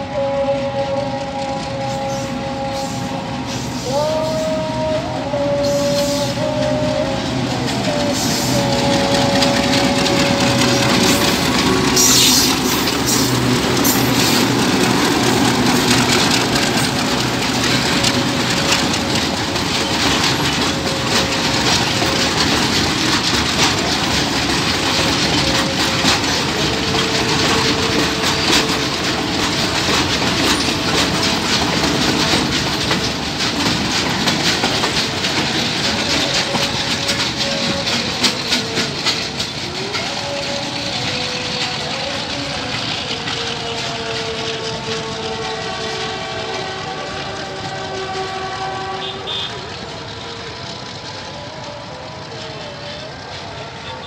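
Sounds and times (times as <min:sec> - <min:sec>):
freight train rumbling past: 0:00.0 - 0:54.0
wheels clicking over rail joints: 0:03.8 - 0:54.0.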